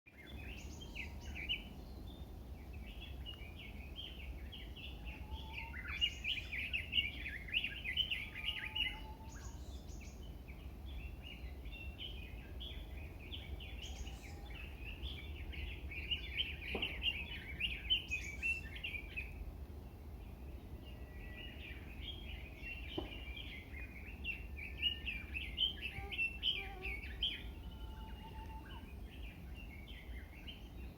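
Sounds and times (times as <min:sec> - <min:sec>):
songbird chattering song: 0:00.1 - 0:30.9.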